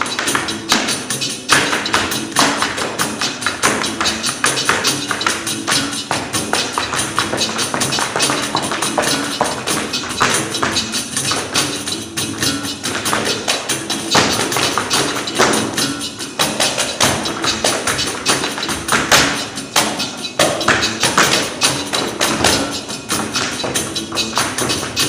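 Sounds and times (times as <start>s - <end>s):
music: 0.0s - 25.0s
tap shoes striking stage: 0.0s - 25.0s.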